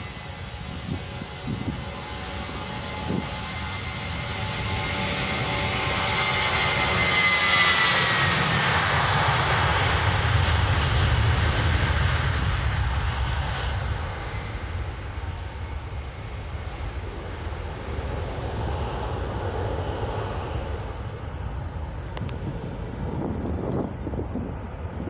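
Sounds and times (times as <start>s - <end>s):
jet engines roaring at takeoff: 0.0s - 25.0s.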